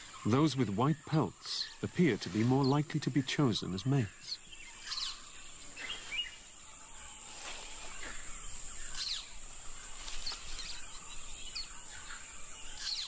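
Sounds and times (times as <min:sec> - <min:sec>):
bird chirps: 0:00.0 - 0:13.0
high insect drone: 0:00.0 - 0:13.0.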